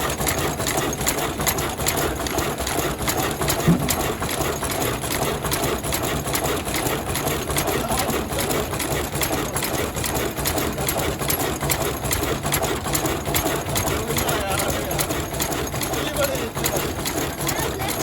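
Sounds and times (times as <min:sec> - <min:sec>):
diesel engine clattering: 0:00.0 - 0:18.0.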